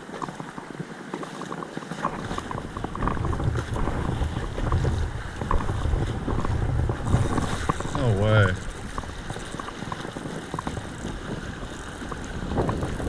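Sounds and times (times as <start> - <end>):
creek water rushing: 0.0 - 13.0
wind on microphone: 0.0 - 13.0.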